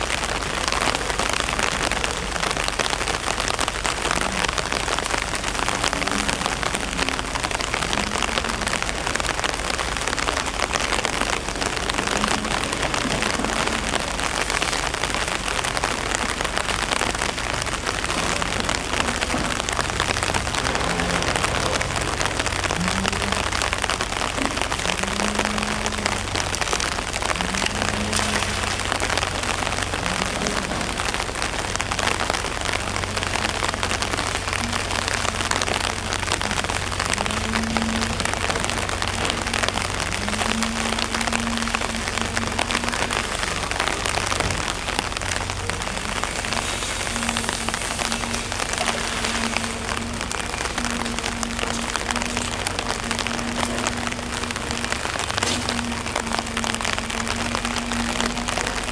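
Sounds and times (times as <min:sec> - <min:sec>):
rain falling on hard ground: 0:00.0 - 0:58.9.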